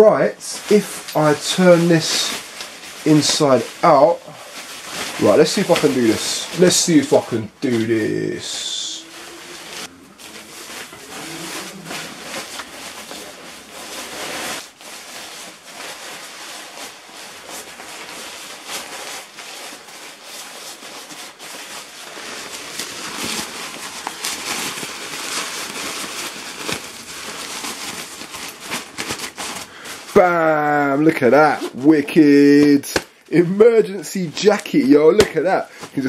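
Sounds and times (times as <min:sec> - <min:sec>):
jacket rustling and crinkling: 0:00.0 - 0:36.0.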